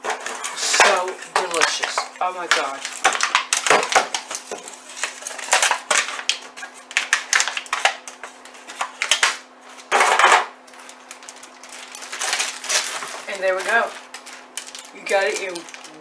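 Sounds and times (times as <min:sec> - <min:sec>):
aluminium foil pans crinkling: 0:00.0 - 0:16.0
plastic bag rustling: 0:00.0 - 0:16.0.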